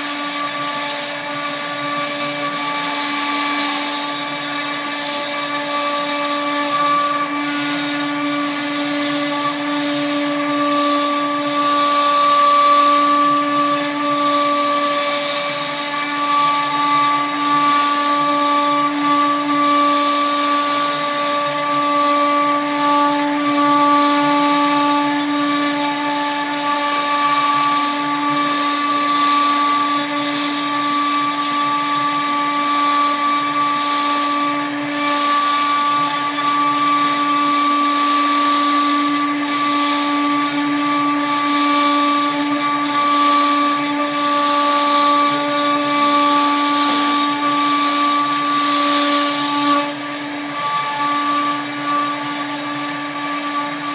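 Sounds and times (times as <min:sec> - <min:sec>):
hiss of cutting: 0:00.0 - 0:53.9
router spindle whine: 0:00.0 - 0:53.9.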